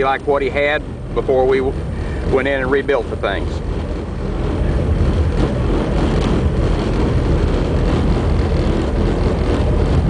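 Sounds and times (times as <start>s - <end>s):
powerboat engines running: 0.0s - 10.0s.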